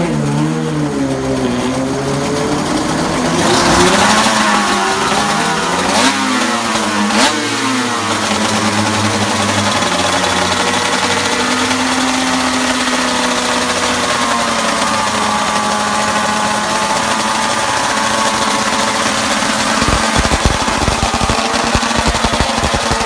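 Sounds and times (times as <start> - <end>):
race engine revving and idling: 0.0 - 23.0.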